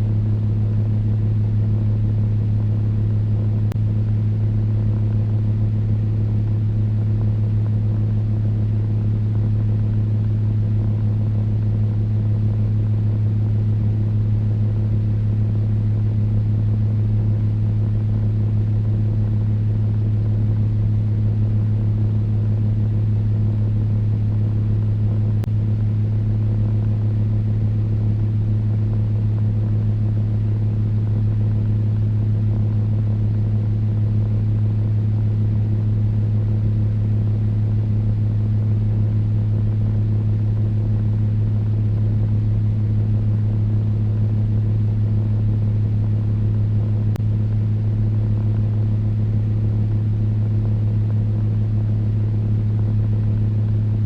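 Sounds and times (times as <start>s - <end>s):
electric fan motor hum: 0.0s - 54.0s.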